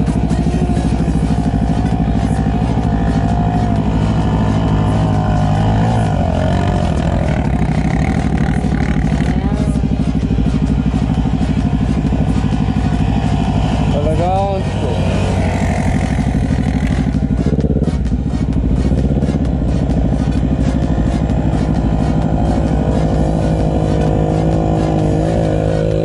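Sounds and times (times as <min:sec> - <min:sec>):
quad engine climbing wavering pitch: 0:00.0 - 0:26.0
quad engine running steadily: 0:00.0 - 0:26.0.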